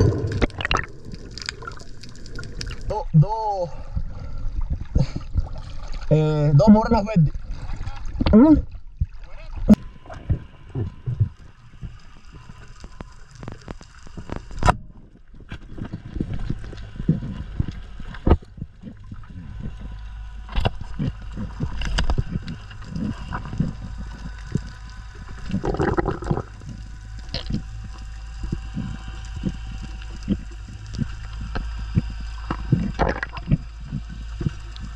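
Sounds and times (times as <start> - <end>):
steady low rumble: 0.0 - 34.9
water gurgling and sloshing: 0.0 - 34.9.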